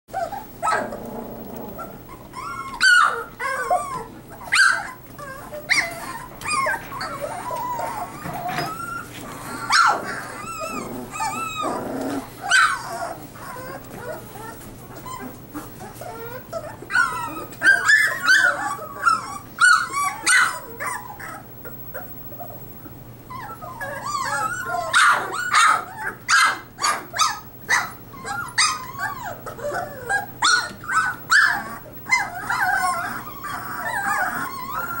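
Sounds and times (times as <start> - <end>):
puppies whimpering and yipping: 0.1 - 35.0.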